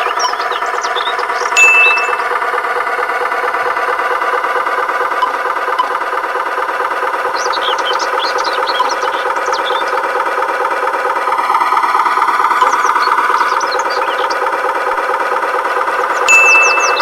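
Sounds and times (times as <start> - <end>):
toy truck motor buzzing: 0.0 - 17.0.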